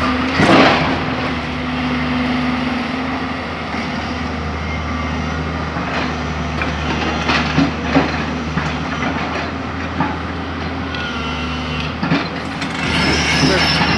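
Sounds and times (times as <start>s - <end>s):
excavator engine running: 0.0s - 13.9s.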